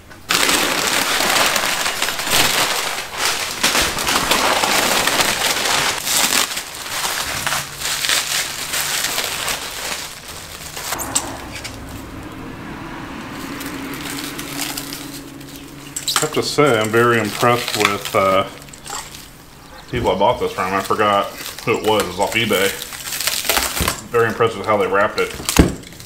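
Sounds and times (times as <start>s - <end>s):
paper and bubble wrap rustling: 0.0s - 11.0s, 13.4s - 26.0s
low steady hum: 1.6s - 24.0s.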